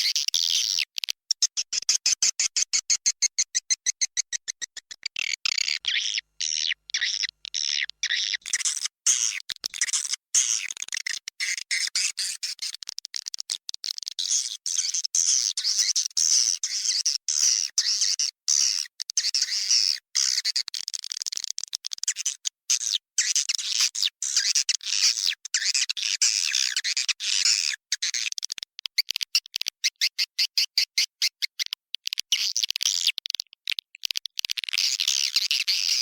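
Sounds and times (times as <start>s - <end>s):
recorded swiftlet calls twittering: 0.0s - 12.8s, 14.0s - 20.9s, 21.9s - 33.4s, 34.0s - 36.0s.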